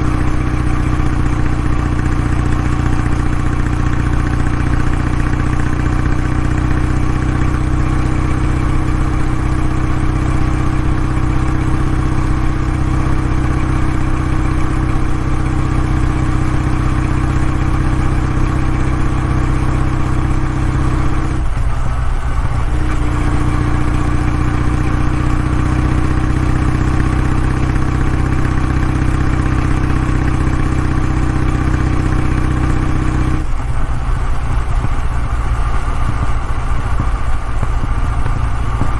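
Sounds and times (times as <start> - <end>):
motorcycle exhaust running steadily: 0.0 - 38.9.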